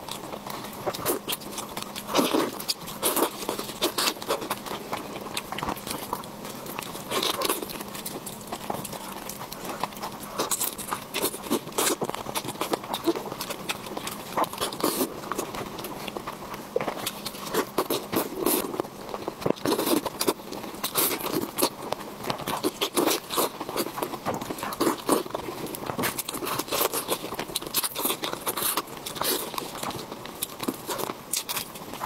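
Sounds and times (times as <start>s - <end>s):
wet chewing and lip smacking: 0.0s - 32.0s.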